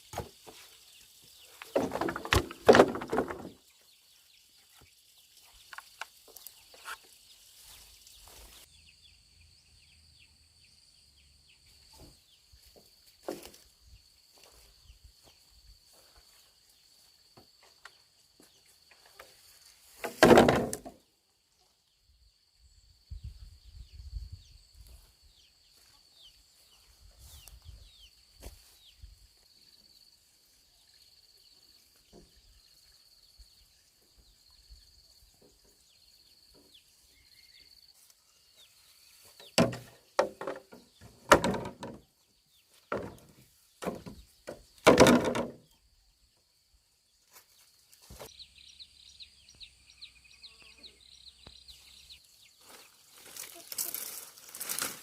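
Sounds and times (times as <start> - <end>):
high insect drone and chirps: 3.5 - 20.1, 21.0 - 55.0.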